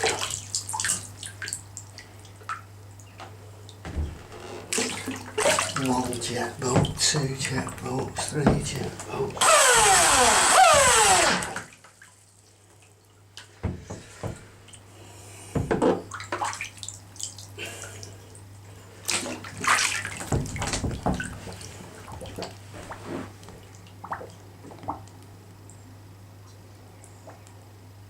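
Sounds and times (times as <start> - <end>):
water splashing and sloshing: 0.0 - 14.9, 15.6 - 25.4.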